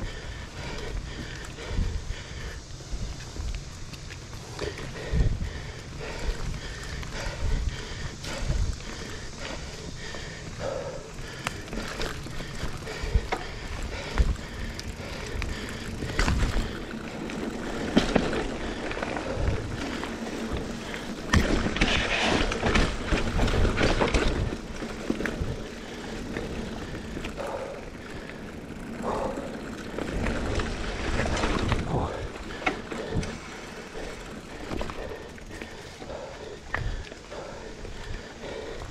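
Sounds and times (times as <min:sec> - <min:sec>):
bike rattling and knocking: 0:00.0 - 0:38.9
bike tyres on dirt: 0:00.0 - 0:38.9.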